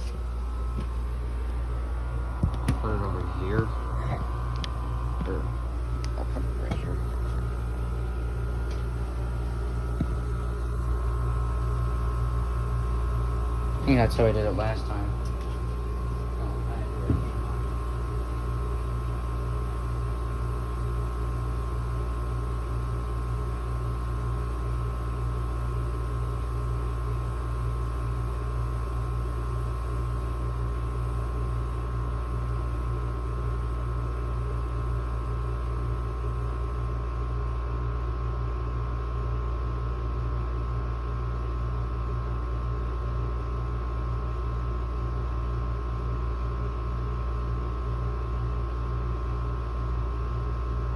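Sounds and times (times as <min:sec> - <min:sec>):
window air conditioner humming: 0:00.0 - 0:50.9.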